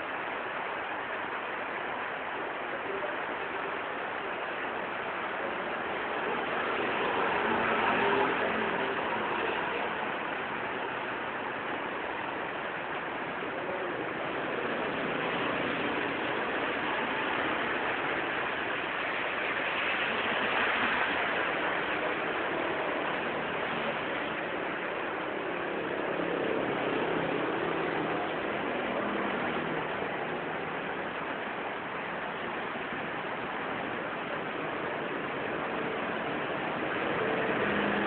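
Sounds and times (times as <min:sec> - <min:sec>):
rain on a wet street: 0:00.0 - 0:38.0
tyres swishing on wet road: 0:00.0 - 0:38.0.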